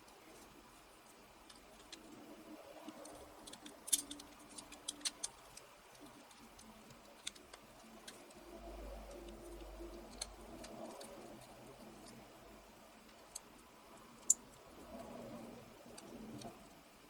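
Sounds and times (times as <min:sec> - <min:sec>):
faint clicks and ticks: 0:00.0 - 0:17.0
faint low hum: 0:00.0 - 0:17.0.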